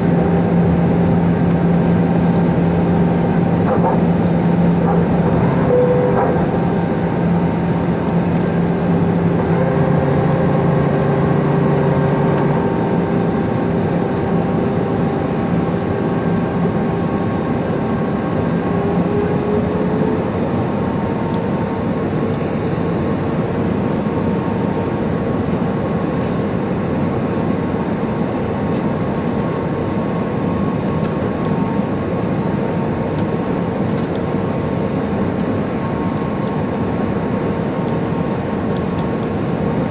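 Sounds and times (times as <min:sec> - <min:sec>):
airflow rushing in aircraft cabin: 0:00.0 - 0:39.9
jet engines humming: 0:00.0 - 0:39.9.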